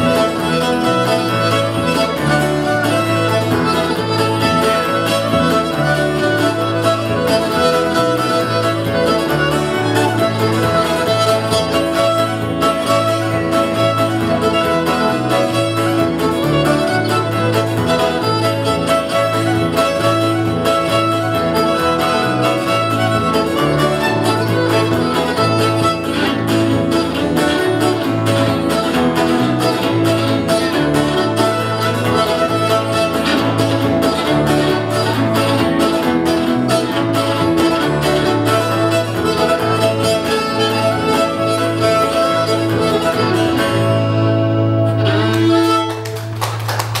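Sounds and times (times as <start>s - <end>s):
acoustic guitar strumming: 0.0s - 47.0s
bass guitar: 0.0s - 47.0s
fiddle tune: 0.0s - 47.0s.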